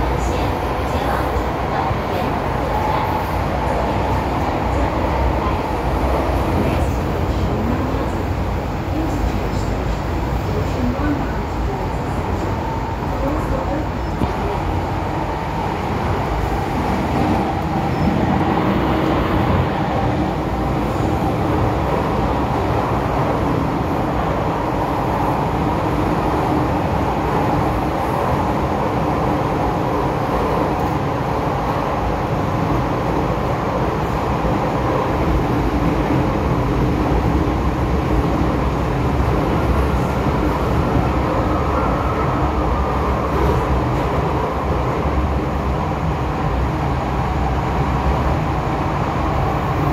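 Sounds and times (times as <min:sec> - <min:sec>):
subway train rumbling on rails: 0:00.0 - 0:49.9.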